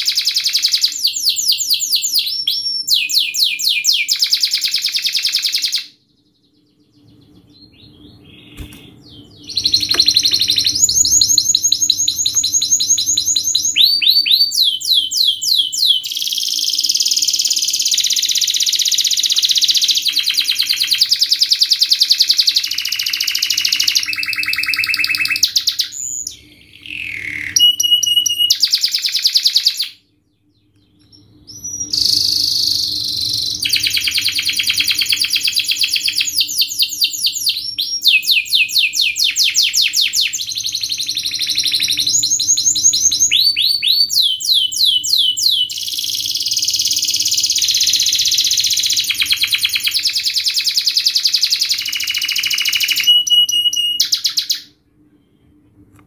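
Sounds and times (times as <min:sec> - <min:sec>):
canary singing rapid trills: 0:00.0 - 0:54.7.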